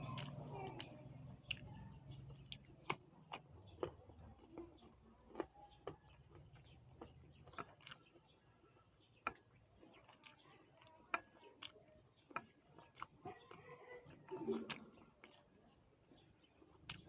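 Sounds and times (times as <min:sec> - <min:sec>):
person chewing crunchy fruit: 0:00.0 - 0:17.0.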